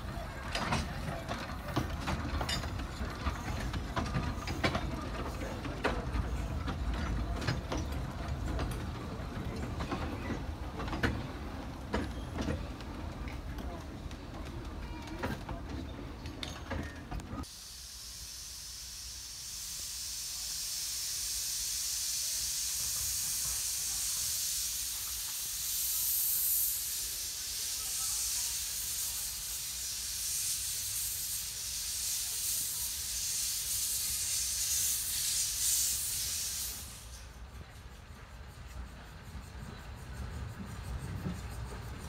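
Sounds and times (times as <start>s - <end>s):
steam locomotive hissing steam: 0.0s - 42.0s.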